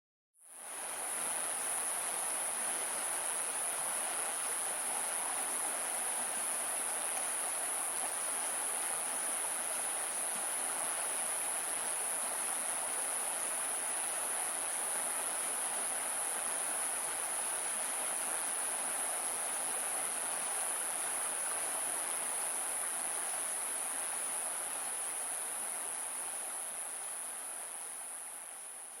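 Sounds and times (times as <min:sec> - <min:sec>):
steady rainfall: 0:00.6 - 0:29.0.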